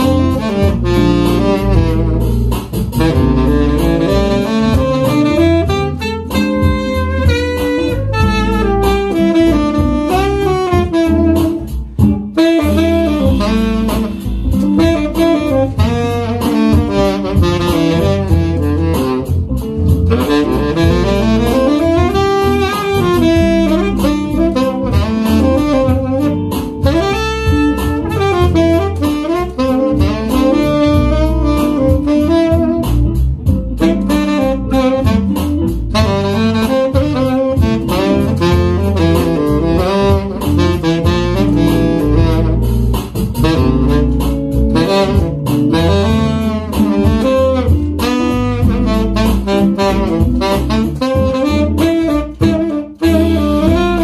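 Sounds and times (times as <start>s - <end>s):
backing track with bass line: 0.0s - 54.0s
tenor saxophone melody: 0.0s - 54.0s.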